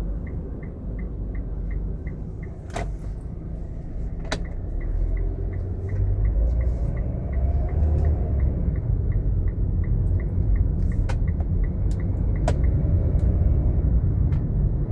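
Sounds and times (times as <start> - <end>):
faint regular ticking: 0.0 - 13.3
truck engine rumbling: 0.0 - 14.9.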